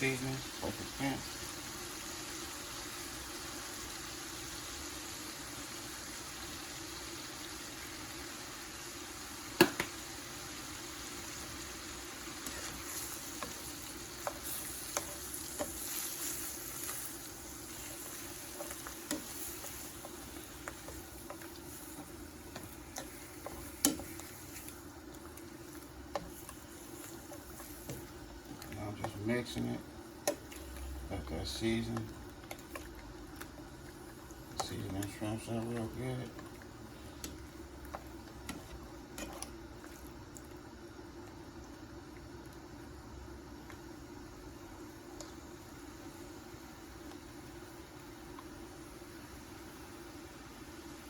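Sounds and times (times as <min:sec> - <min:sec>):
covered pot steaming hiss: 0:00.0 - 0:32.3, 0:33.6 - 0:39.6, 0:43.8 - 0:51.0.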